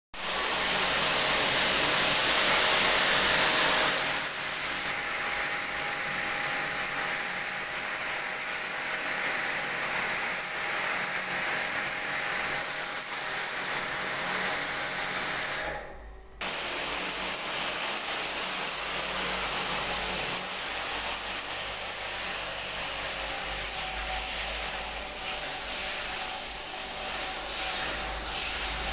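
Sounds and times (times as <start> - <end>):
air conditioner hissing: 0.2 - 28.9.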